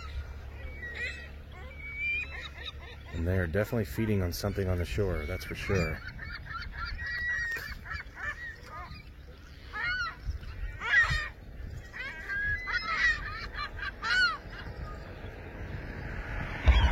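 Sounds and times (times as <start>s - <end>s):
flock of birds calling: 0.0s - 16.9s.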